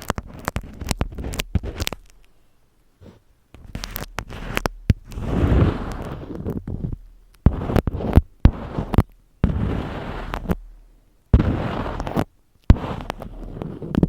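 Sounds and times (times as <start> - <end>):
object crunching and crackling: 0.0 - 2.3, 3.6 - 10.7, 11.3 - 14.0.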